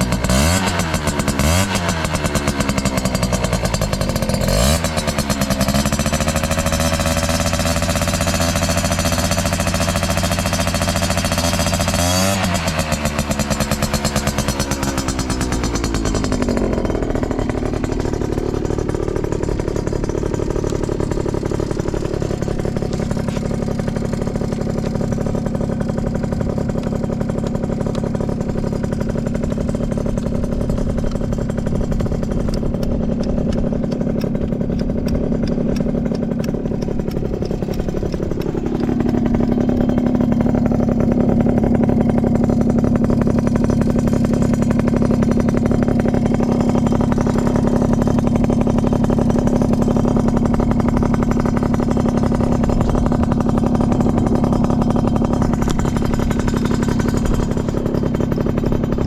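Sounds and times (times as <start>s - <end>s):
scooter engine idling: 0.0s - 59.0s.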